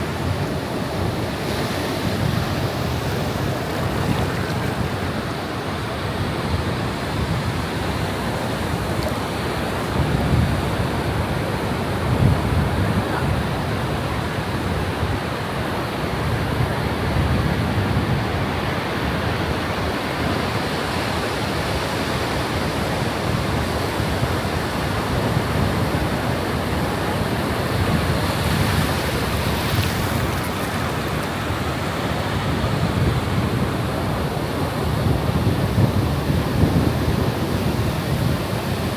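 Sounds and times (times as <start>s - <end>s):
ocean waves breaking: 0.0s - 14.8s, 21.1s - 38.9s
wind buffeting microphone: 0.0s - 19.6s, 23.2s - 38.9s.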